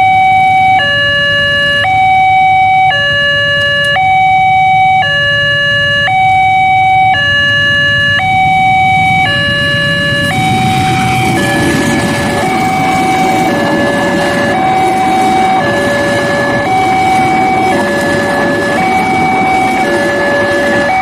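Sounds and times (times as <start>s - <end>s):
diesel train arriving: 0.0s - 21.0s
two-tone crossing alarm: 0.0s - 21.0s.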